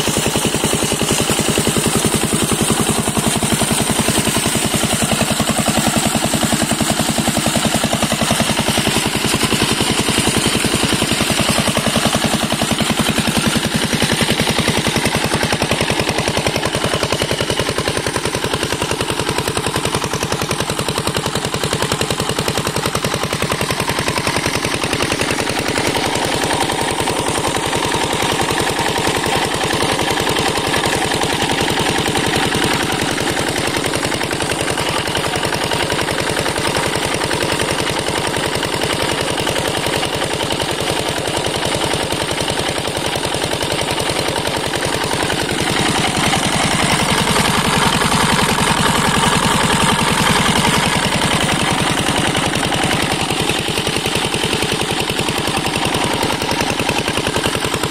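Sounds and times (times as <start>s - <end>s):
diesel engine running: 0.0s - 57.9s
water gushing from pipe: 0.0s - 57.9s.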